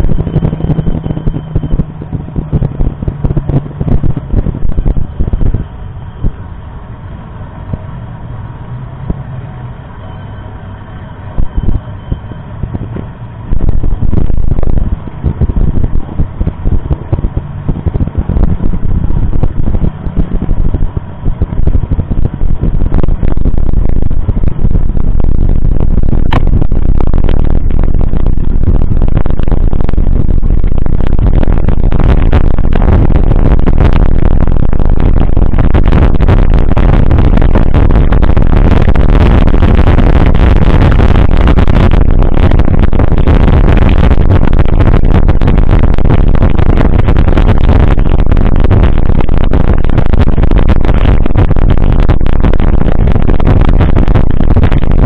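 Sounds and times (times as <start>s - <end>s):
loud steady rumbling: 0.0s - 55.0s.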